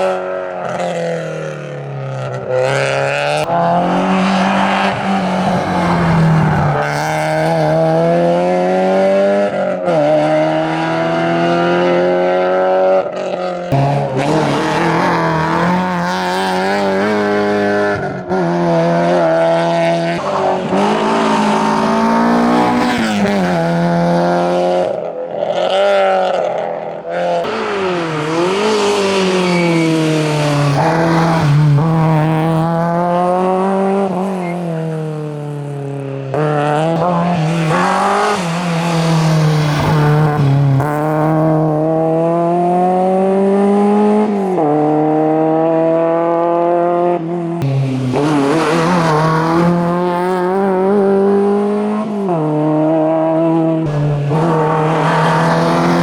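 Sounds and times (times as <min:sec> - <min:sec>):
race car engine revving hard: 0:00.0 - 0:56.0.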